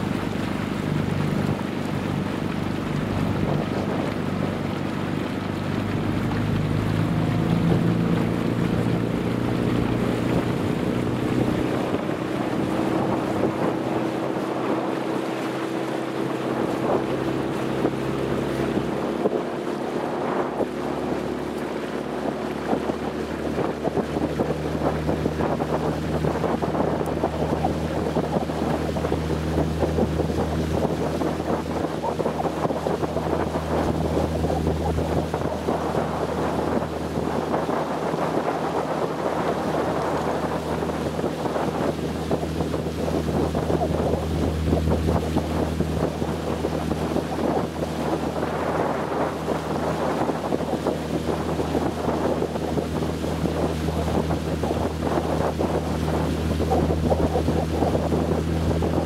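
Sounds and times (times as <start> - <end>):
boat engine running: 0.0 - 59.0
water rushing past hull: 0.0 - 59.0
wind buffeting microphone: 0.0 - 59.0.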